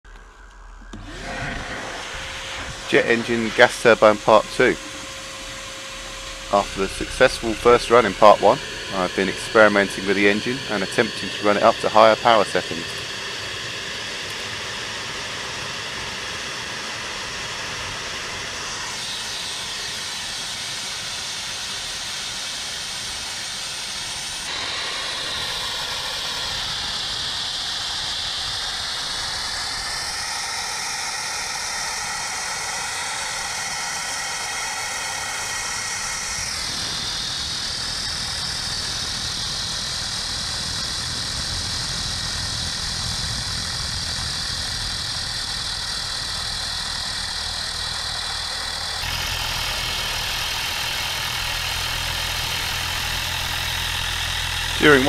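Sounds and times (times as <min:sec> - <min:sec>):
jet engine roaring and whining: 0:00.1 - 0:55.0.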